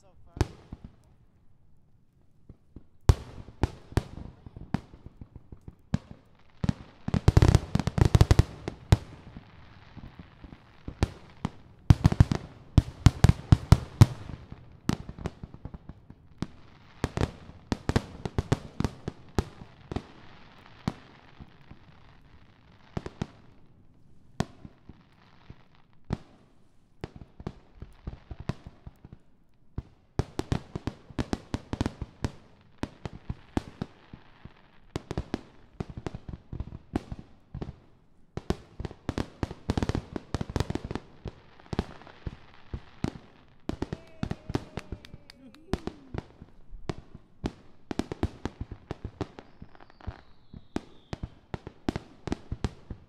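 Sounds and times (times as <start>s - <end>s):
fireworks bursts and bangs: 0.0s - 1.0s, 2.4s - 23.7s, 29.8s - 53.0s.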